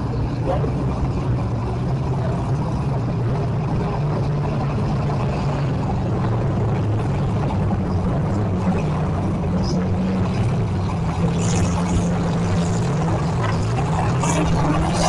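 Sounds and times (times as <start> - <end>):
car engines droning: 0.0 - 15.0.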